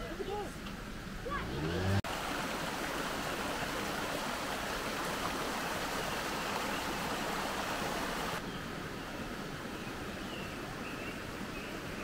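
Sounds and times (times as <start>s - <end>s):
stream water rushing: 0.8s - 12.0s.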